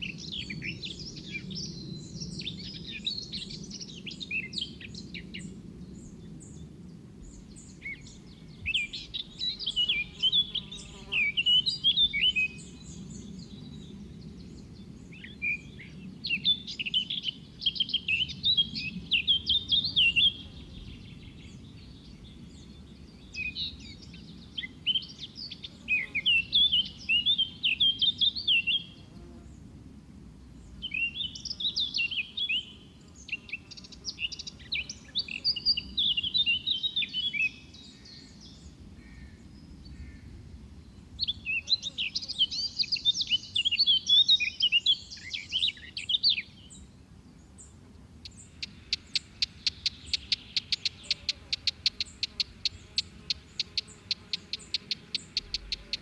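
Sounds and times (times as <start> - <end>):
songbird singing: 0.0 - 29.8, 30.4 - 56.0.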